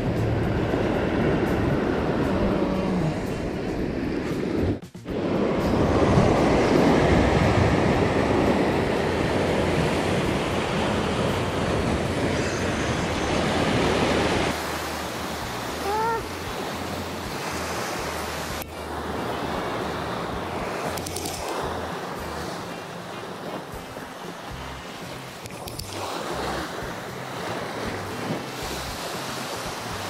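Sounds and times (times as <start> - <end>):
waves breaking on rocks: 5.6 - 30.0.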